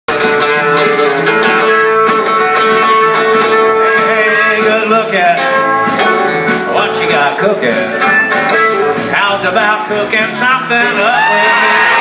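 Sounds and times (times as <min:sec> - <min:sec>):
acoustic guitar strummed: 0:00.1 - 0:12.0
country band playing: 0:00.1 - 0:12.0.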